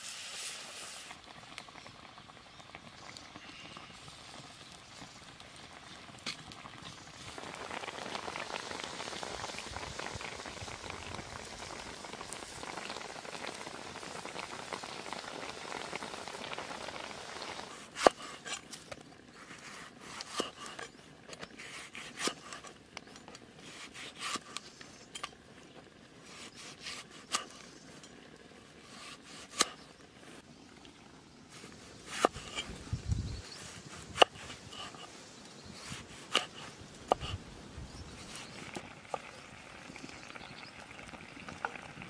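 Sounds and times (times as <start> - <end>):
fish sizzling in oil: 0.0 - 30.5, 31.2 - 42.0.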